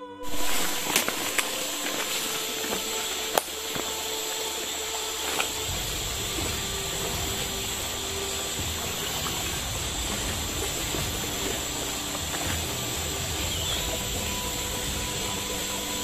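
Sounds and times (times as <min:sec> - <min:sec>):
flowing spring water: 0:00.0 - 0:16.0.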